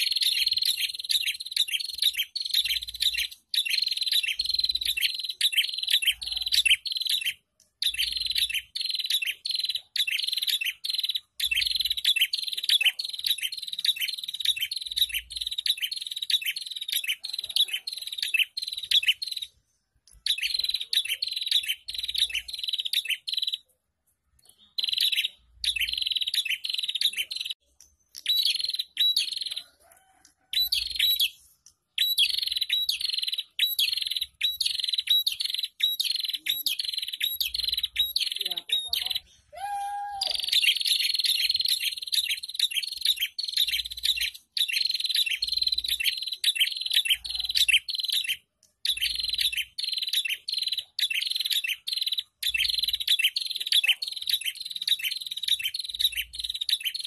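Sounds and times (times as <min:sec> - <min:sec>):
bird chirping rapidly: 0:00.0 - 0:23.7, 0:24.4 - 0:29.8, 0:30.5 - 0:39.5, 0:40.3 - 0:57.0.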